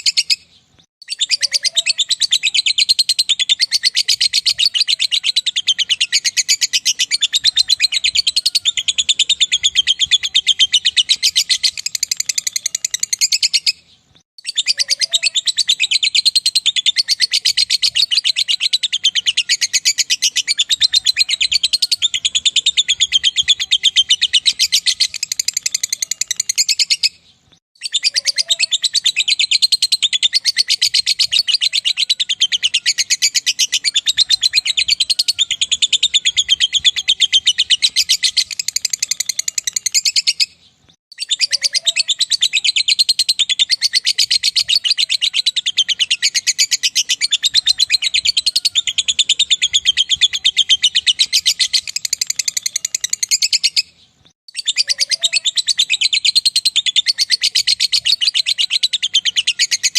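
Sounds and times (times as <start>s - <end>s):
lovebird chattering trill: 0.0s - 27.2s, 27.8s - 59.9s.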